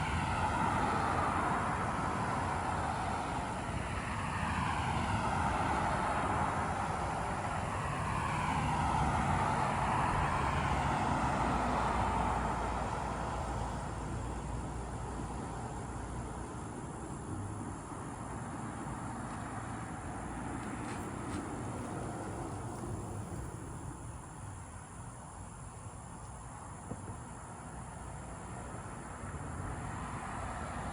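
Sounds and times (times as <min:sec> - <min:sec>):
cars passing: 0:00.0 - 0:30.9
high insect drone: 0:00.0 - 0:30.9.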